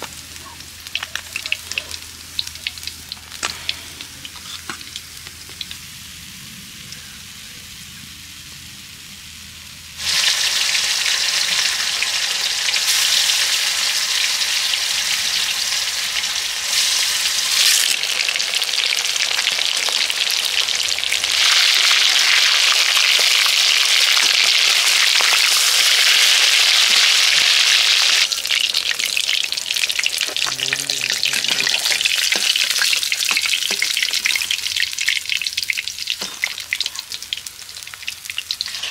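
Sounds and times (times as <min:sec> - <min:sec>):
fish frying in hot oil: 0:00.0 - 0:07.3, 0:08.4 - 0:38.9.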